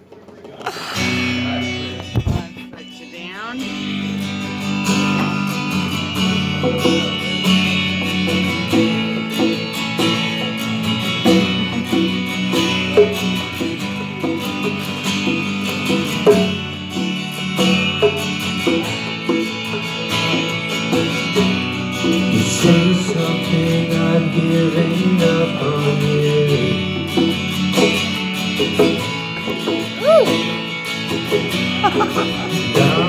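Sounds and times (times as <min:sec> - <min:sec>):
acoustic guitar strumming: 0:00.0 - 0:33.0
conga drums played by hand: 0:00.0 - 0:33.0.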